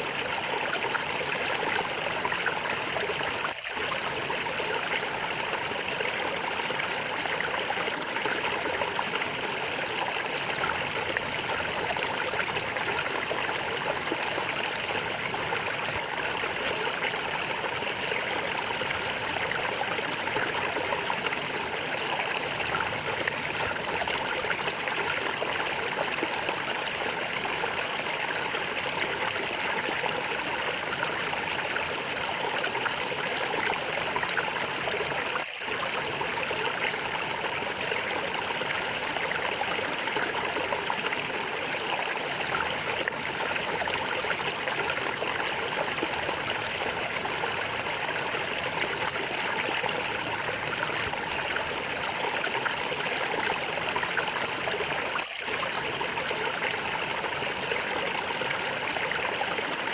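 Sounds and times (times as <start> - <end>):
water gurgling and trickling: 0.0 - 59.9.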